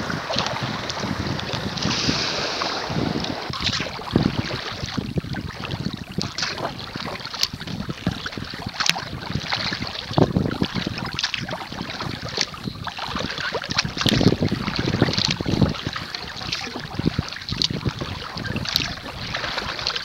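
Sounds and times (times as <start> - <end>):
paddle water splashing: 0.0 - 20.0
wind buffeting microphone: 0.0 - 20.0.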